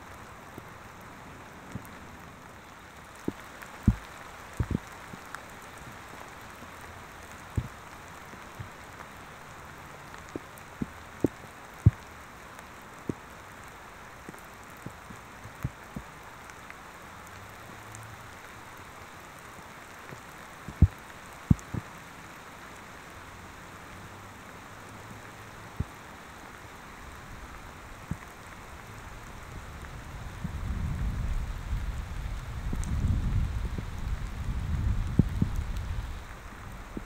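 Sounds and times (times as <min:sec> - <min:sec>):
rain hiss: 0:00.0 - 0:37.0
raindrops clicking on microphone: 0:00.0 - 0:37.0.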